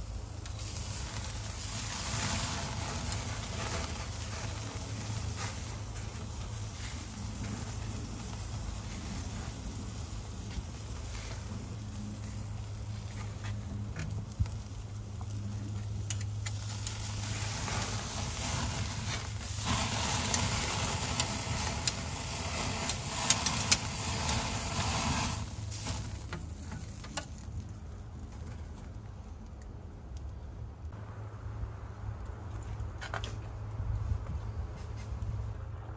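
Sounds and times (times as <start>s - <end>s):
steak sizzling over embers: 0.0s - 29.0s
sharp crackles: 0.0s - 30.9s.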